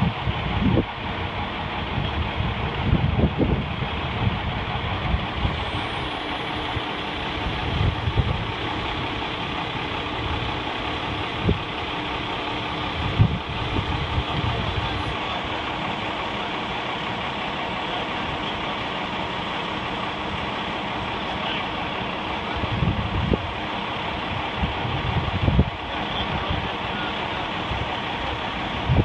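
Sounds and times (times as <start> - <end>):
crane engine idling: 0.0 - 29.0.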